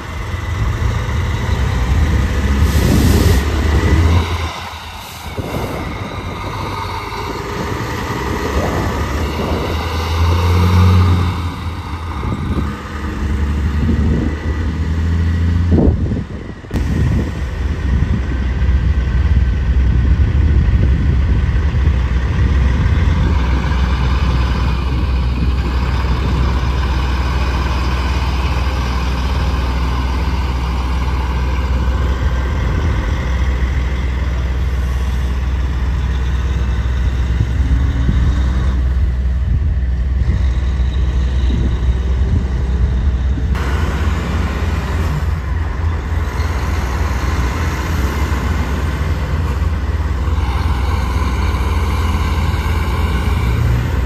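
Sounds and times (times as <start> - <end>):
trucks rumbling by: 0.0 - 54.0.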